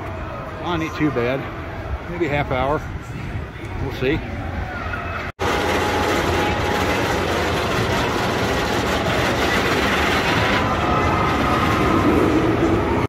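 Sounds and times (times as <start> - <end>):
roller coaster rumbling on track: 0.0 - 13.0.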